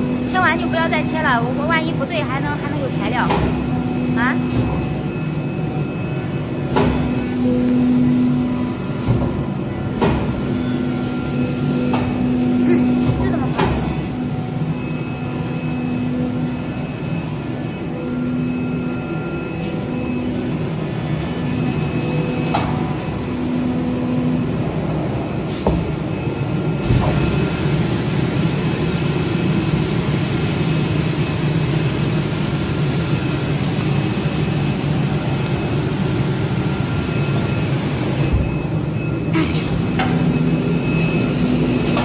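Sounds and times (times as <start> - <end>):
cutting machine running: 0.0 - 42.0
pulsing low hum: 0.0 - 42.0.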